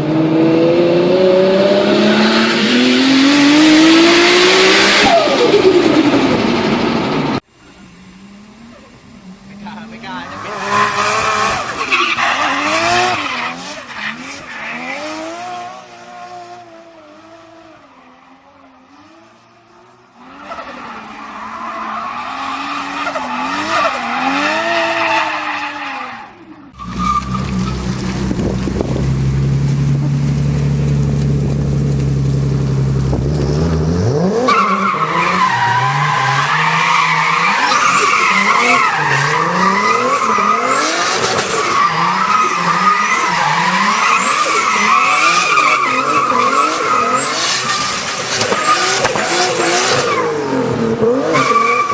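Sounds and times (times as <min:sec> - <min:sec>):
turbocharged car engine revving: 0:00.0 - 0:07.4, 0:08.1 - 0:17.8, 0:20.2 - 0:51.9.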